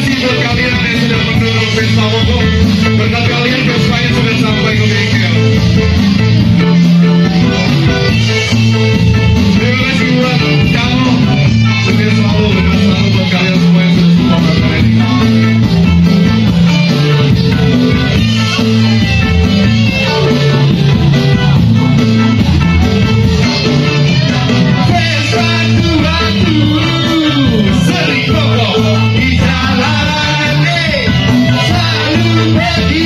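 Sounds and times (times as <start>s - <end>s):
bass guitar bass line: 0.0s - 33.0s
electric guitar: 0.0s - 33.0s
live band playing amplified music: 0.0s - 33.0s.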